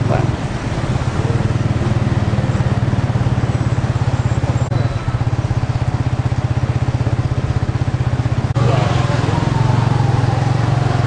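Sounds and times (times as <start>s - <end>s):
motorcycle engine running: 0.0s - 11.0s
street noise: 0.0s - 11.0s.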